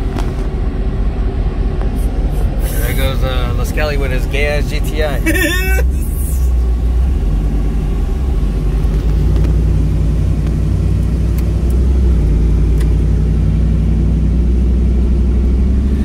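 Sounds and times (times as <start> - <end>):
engine rumble inside truck cab: 0.0 - 16.0.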